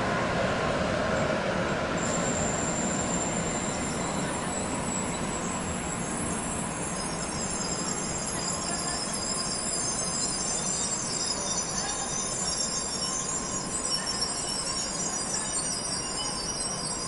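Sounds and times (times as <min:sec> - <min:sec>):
train rumbling past: 0:00.0 - 0:17.0
high-pitched train squeals: 0:01.1 - 0:17.0.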